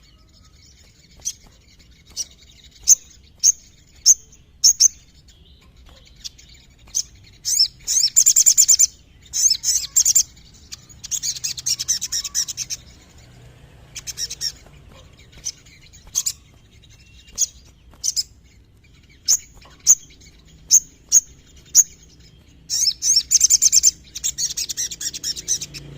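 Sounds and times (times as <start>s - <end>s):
sunbird singing: 0.0s - 25.9s.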